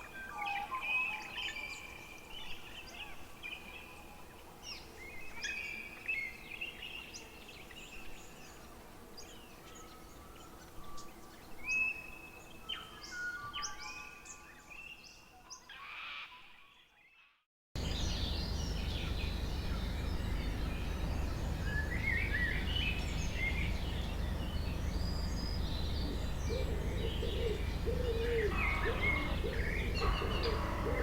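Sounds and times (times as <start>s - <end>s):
songbirds singing: 0.0s - 16.2s, 17.8s - 31.0s.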